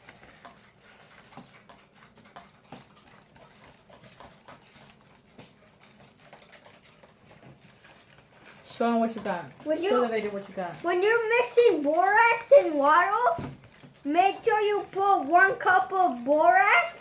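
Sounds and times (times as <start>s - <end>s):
spoon and plastic containers clicking: 1.2s - 17.0s.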